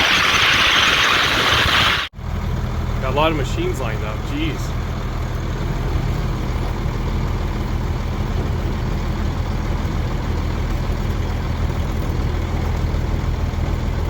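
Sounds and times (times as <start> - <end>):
off-road vehicle engines idling: 2.2 - 14.0.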